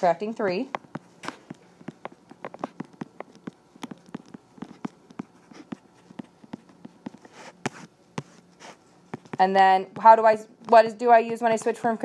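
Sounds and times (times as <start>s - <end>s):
faint steady hum: 0.0s - 12.0s
stylus tapping on tablet screen: 0.6s - 12.0s.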